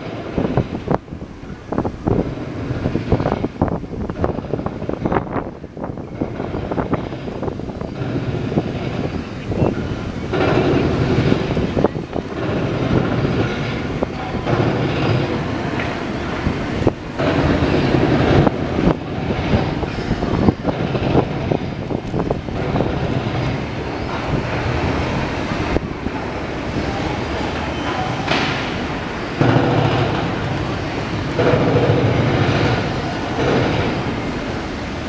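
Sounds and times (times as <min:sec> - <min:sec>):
rumbling traffic din: 0:00.0 - 0:35.0.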